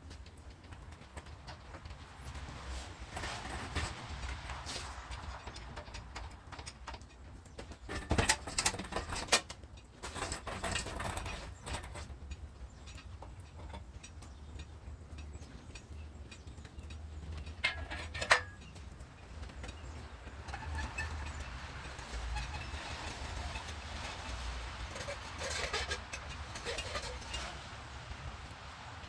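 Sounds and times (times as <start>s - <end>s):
metal clanks and knocks: 1.1s - 27.7s.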